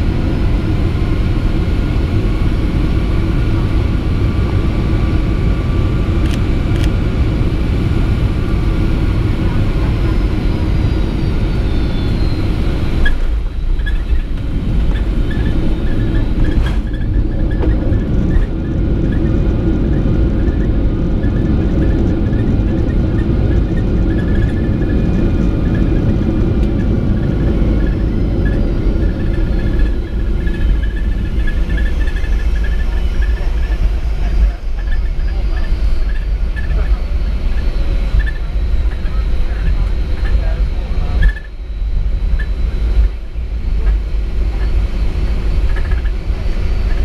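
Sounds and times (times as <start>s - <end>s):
jet engines and wheels rumbling: 0.0s - 47.0s
faint falling whine: 6.9s - 47.0s.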